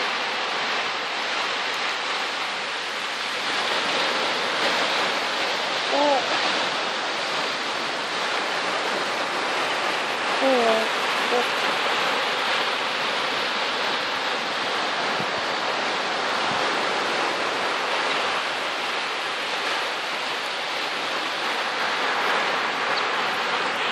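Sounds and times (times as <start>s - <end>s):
sea water rushing: 0.0s - 23.9s.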